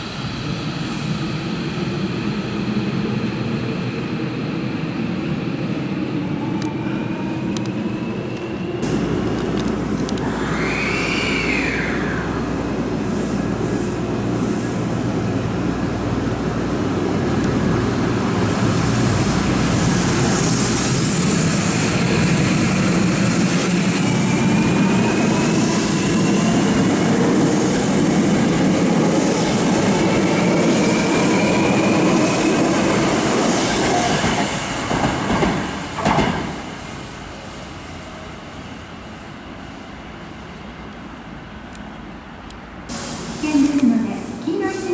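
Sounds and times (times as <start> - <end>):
faint train whine: 0.0 - 44.9
train wheels rumbling on rail: 0.0 - 44.9.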